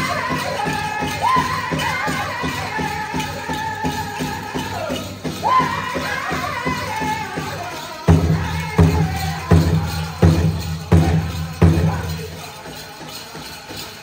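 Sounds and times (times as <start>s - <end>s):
big drum heavy beats: 0.0s - 13.8s
bells jingling: 0.0s - 14.0s
high singing voices: 0.0s - 14.0s.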